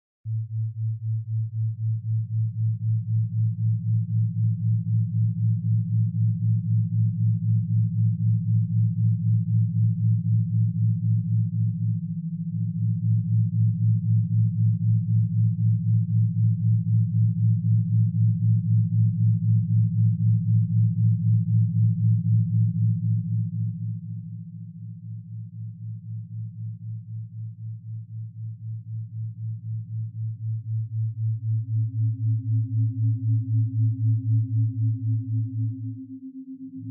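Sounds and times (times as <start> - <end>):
pulsing low tone: 0.3 - 36.9
steady low sine tone: 0.3 - 36.9.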